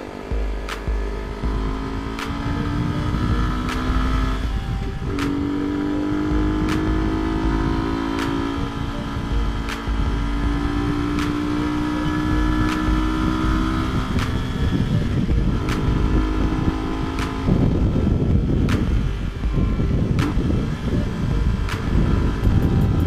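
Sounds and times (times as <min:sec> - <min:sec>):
motorcycle engine at speed: 0:00.0 - 0:23.0
wind rush on microphone: 0:00.0 - 0:23.0.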